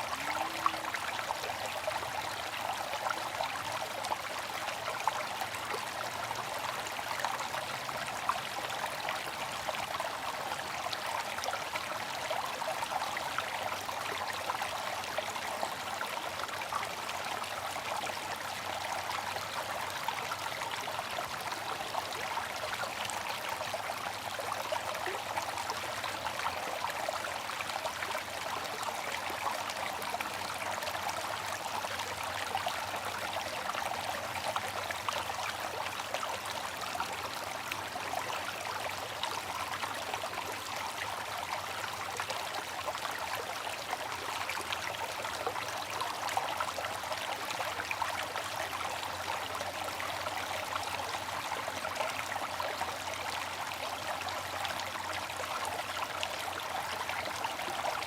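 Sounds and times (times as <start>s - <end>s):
fountain water trickling and splashing: 0.0s - 58.0s.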